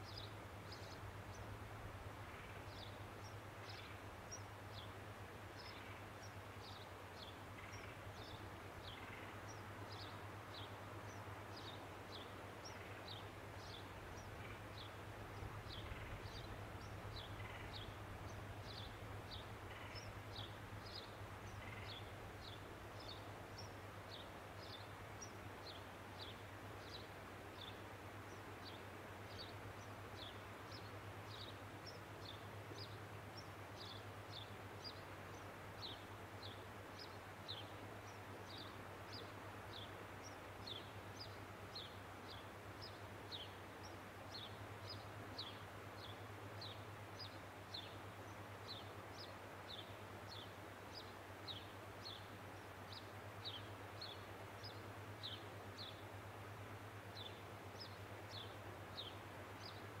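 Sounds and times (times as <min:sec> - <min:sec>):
small bird calls: 0:05.6 - 0:56.0.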